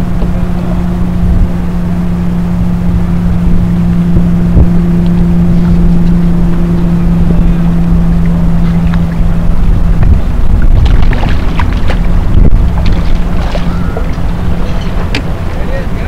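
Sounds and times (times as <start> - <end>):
boat motor droning: 0.0 - 16.0
wind rumble on microphone: 0.0 - 16.0.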